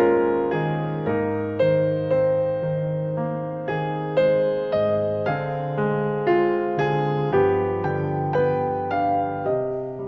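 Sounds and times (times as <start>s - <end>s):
slow gentle solo piano: 0.0s - 10.0s.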